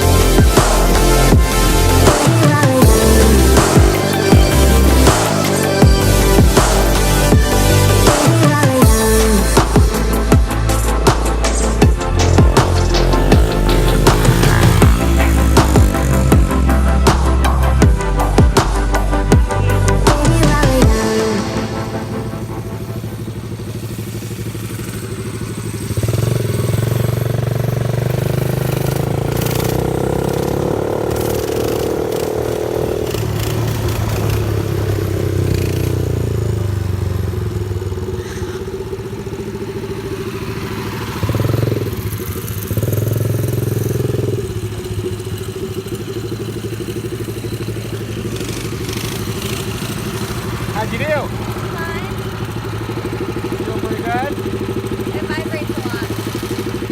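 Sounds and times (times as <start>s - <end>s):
mini bike engine revving: 0.0s - 56.9s.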